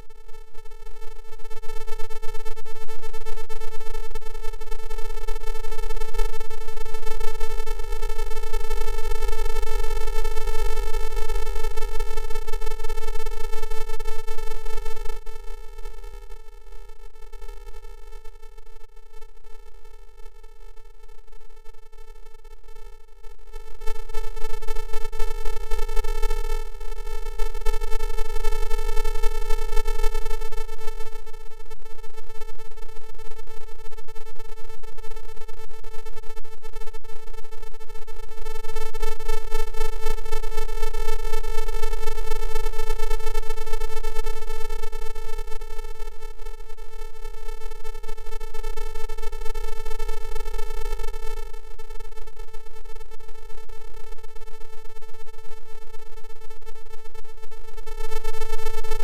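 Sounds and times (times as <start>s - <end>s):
electronic buzzing tone: 0.0s - 59.0s.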